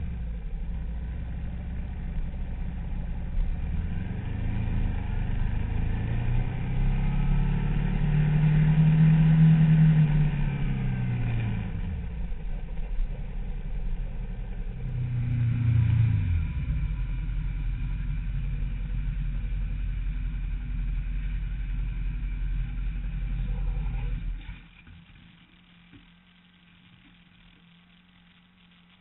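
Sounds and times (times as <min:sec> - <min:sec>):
motorcycle engine idling: 0:00.0 - 0:08.0, 0:09.3 - 0:29.0
faint low hum: 0:00.0 - 0:29.0.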